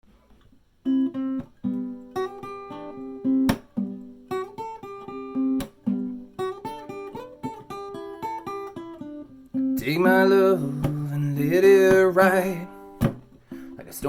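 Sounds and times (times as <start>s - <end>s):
acoustic guitar chords: 0.8s - 14.0s.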